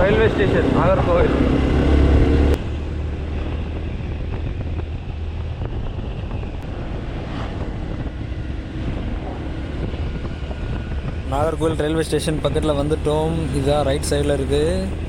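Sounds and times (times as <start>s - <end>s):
low rumble: 0.0s - 15.0s
motorbike running: 0.0s - 15.0s
wind buffeting microphone: 0.0s - 15.0s.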